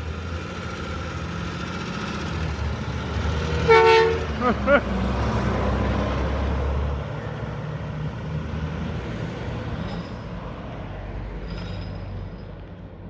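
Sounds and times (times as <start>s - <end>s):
garbage truck diesel engine passing: 0.0s - 12.3s.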